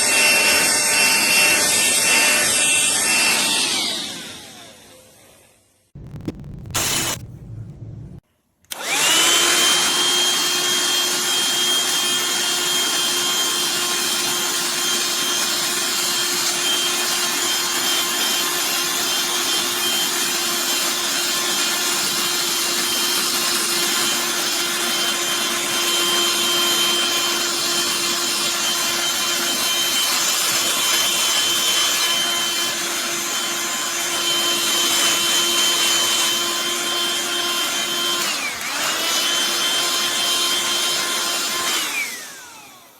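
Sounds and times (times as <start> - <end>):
handheld vacuum whining: 0.0 - 5.6, 6.8 - 7.2, 8.7 - 42.9.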